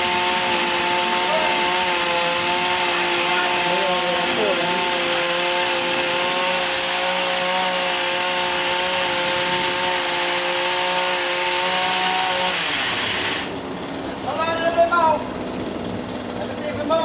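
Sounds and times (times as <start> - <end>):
chainsaw cutting wood: 0.0 - 13.7.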